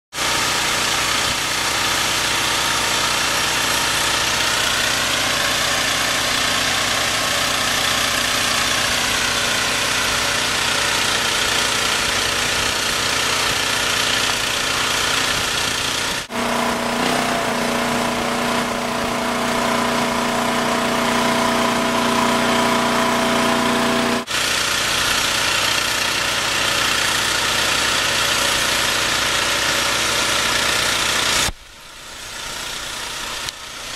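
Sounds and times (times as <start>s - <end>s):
engine running under load: 0.1s - 33.9s.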